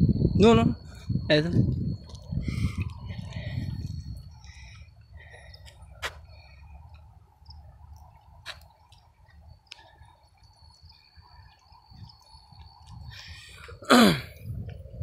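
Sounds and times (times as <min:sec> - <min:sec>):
low steady rumble: 0:00.0 - 0:13.7
crickets trilling: 0:00.0 - 0:15.0.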